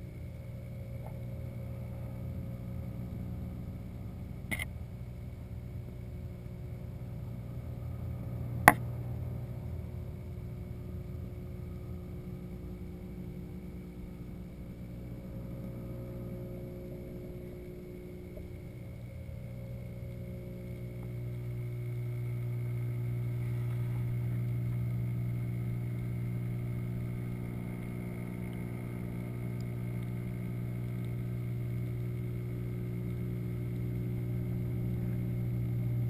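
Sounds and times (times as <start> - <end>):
aquarium pumps humming underwater: 0.0 - 36.0
faint steady tones: 0.0 - 36.0.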